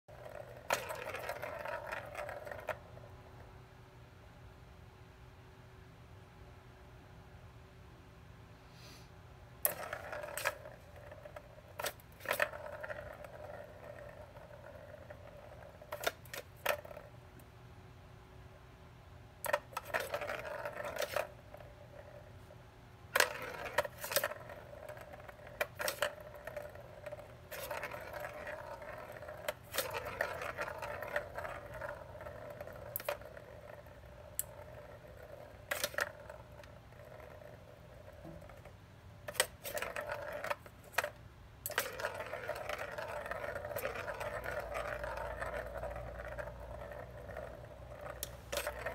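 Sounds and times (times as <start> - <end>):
ball clicking on plastic: 0.1 - 2.9, 9.6 - 17.5, 19.4 - 22.2, 23.1 - 48.9
plastic balls rattling and rolling: 0.1 - 3.0, 9.6 - 17.2, 19.4 - 22.4, 23.1 - 48.9.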